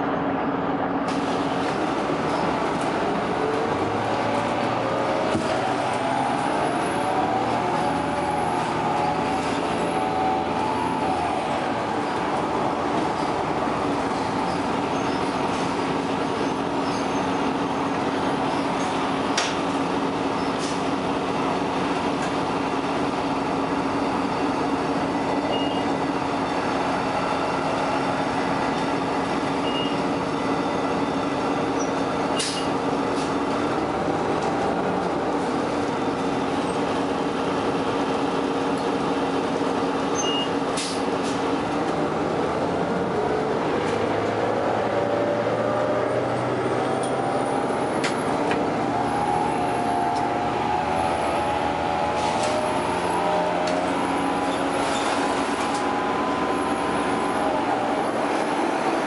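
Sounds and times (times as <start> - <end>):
bus engine running: 0.0 - 59.0
rising whine of bus: 0.0 - 59.0
road noise: 0.0 - 59.0.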